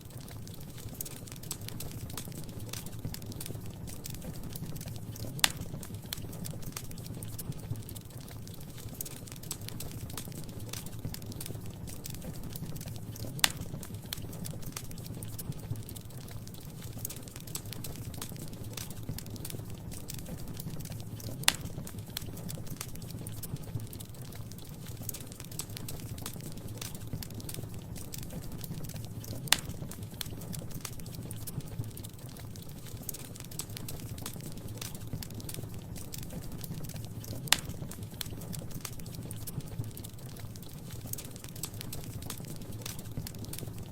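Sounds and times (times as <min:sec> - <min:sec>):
fire low rumble: 0:00.0 - 0:43.9
wood fire crackling: 0:00.0 - 0:43.9.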